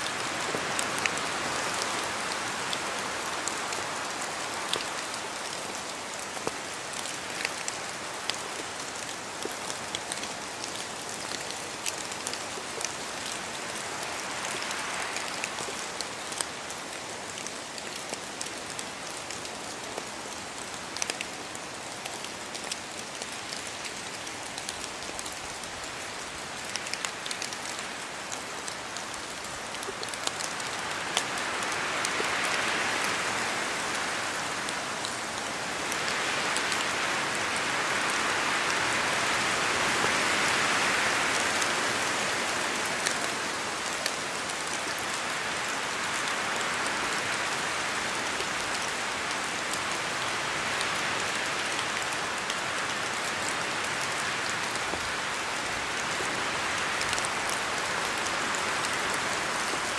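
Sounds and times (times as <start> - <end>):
close raindrops striking: 0.0 - 59.9
rain falling through trees: 0.0 - 59.9.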